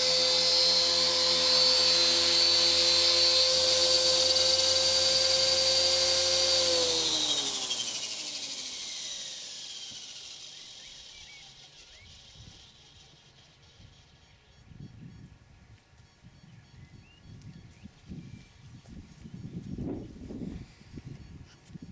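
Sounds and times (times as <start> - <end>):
rc helicopter motor whine: 0.0 - 21.9.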